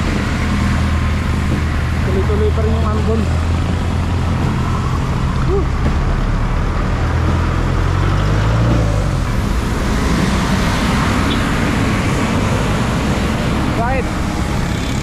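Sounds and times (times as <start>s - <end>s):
engine hum: 0.0s - 15.0s
tyres hissing on wet pavement: 0.0s - 15.0s.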